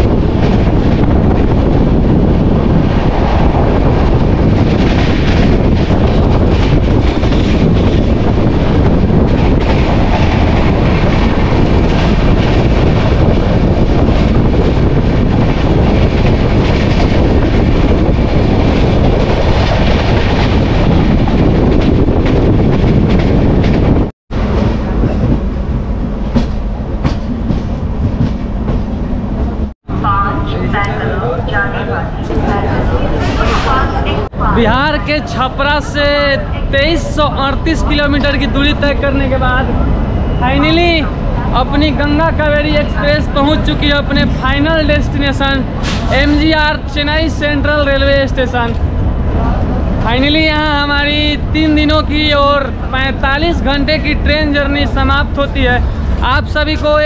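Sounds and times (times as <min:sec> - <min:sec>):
train running at speed: 0:00.0 - 0:57.0.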